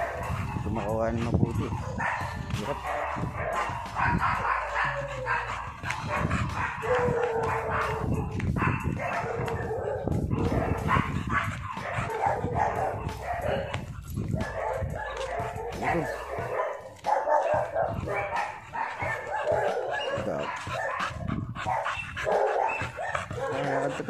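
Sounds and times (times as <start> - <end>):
dog barking and whining: 0.0 - 24.0.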